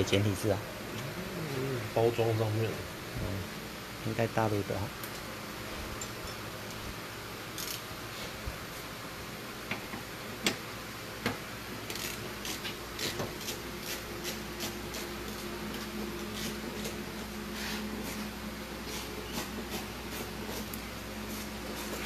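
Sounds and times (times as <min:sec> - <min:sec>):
workshop low hum: 0:00.0 - 0:22.0.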